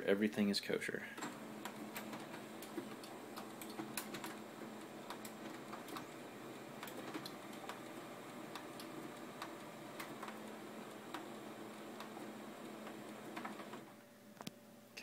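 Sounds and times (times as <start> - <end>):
printer clicks and ticks: 1.2 - 13.9.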